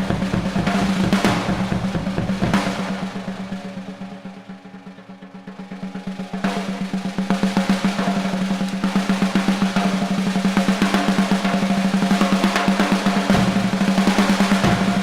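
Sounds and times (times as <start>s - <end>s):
drum ringing: 0.0s - 15.0s
drum roll: 0.0s - 15.0s.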